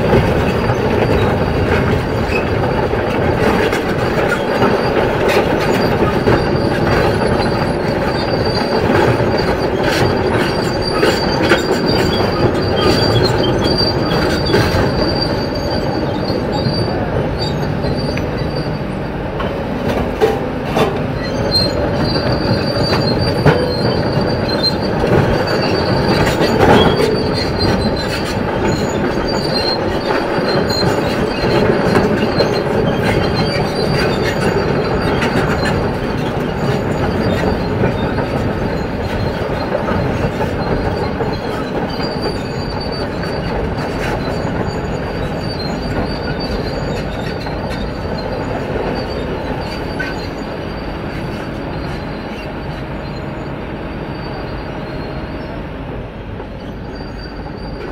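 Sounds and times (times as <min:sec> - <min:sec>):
excavator tracks squealing and clanking: 0:00.0 - 0:57.9.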